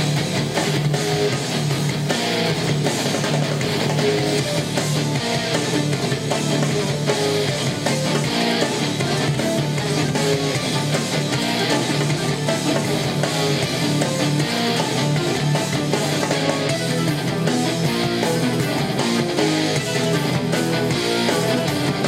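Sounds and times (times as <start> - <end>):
guitar rock music: 0.0 - 22.0.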